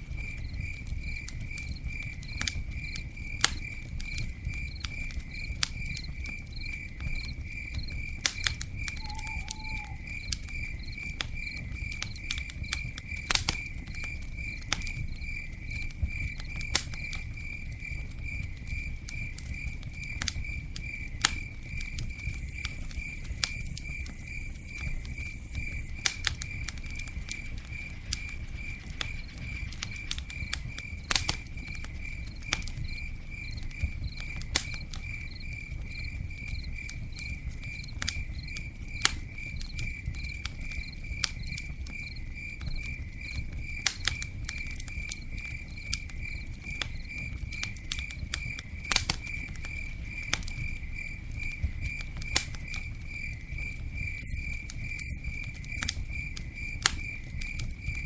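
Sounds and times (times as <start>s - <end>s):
campfire crackling and popping: 0.0s - 58.0s
insect chirping: 0.2s - 58.0s.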